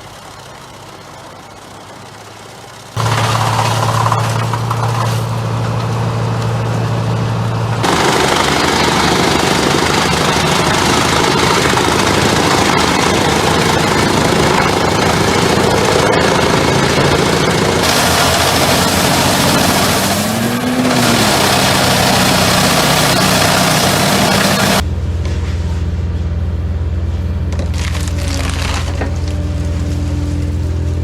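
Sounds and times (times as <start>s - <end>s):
wood chipper engine: 0.0s - 31.0s.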